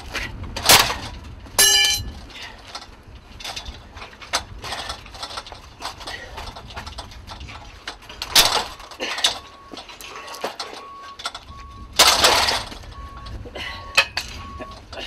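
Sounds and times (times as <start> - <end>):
metal window grille rattling: 0.0 - 15.0.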